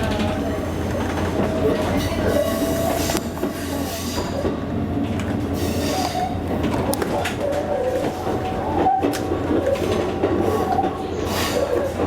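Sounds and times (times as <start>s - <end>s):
electric train rumbling on rails: 0.0s - 12.0s.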